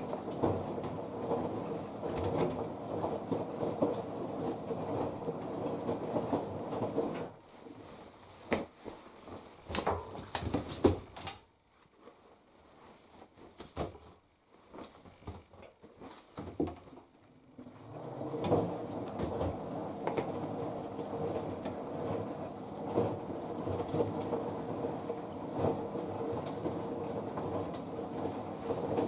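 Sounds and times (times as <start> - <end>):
laundry rustling in dryer drum: 0.0 - 29.0.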